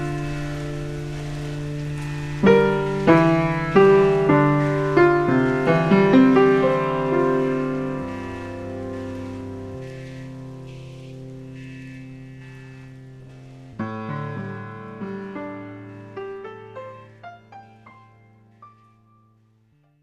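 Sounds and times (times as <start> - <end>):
ambient piano music: 0.0 - 19.9.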